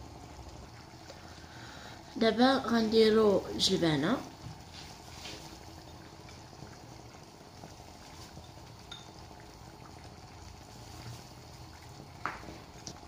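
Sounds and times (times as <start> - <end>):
pot simmering: 0.0 - 13.0.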